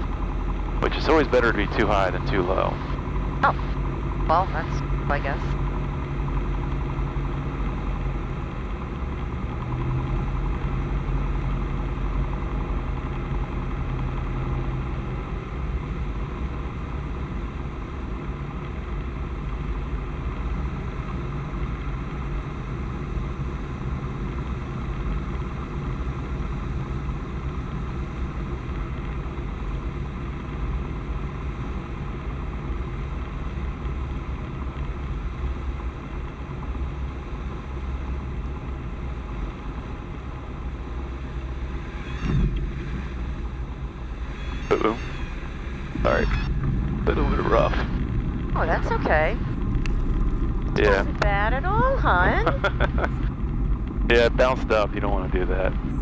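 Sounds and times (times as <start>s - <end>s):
airflow noise in cabin: 0.0s - 56.0s
airplane engine and propeller: 0.0s - 56.0s.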